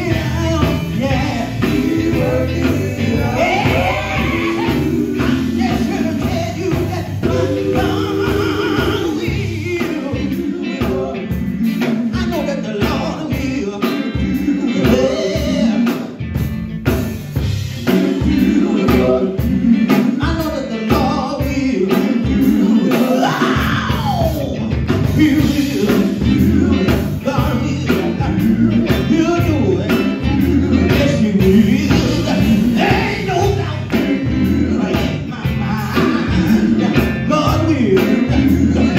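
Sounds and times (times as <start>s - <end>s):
man singing into a microphone: 0.0s - 16.2s, 17.9s - 38.9s
drums: 0.0s - 38.9s
electric bass: 0.0s - 38.9s
electric guitar: 0.0s - 38.9s.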